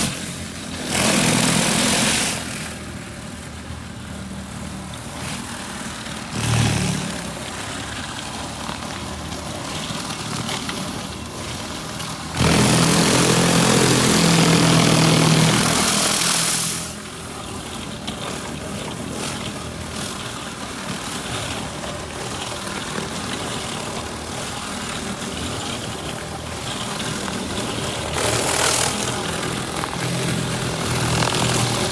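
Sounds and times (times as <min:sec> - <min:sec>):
pressure washer motor hum: 0:00.0 - 0:31.9.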